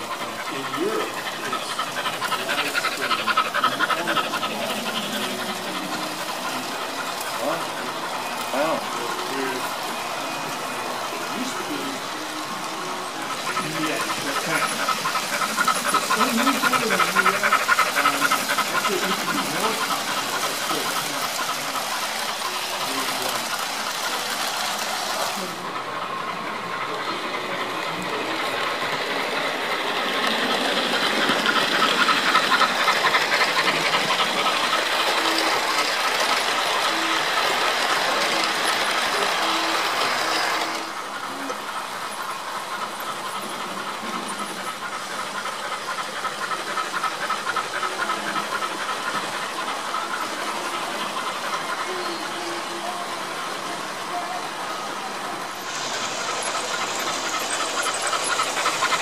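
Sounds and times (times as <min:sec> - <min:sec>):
model steam locomotive chuffing: 0:00.0 - 0:59.0.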